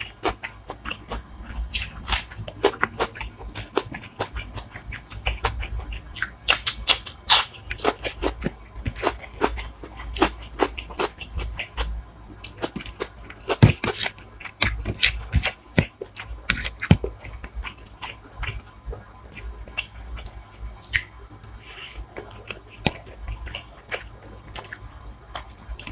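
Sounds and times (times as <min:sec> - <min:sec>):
person chewing: 0:00.0 - 0:25.9.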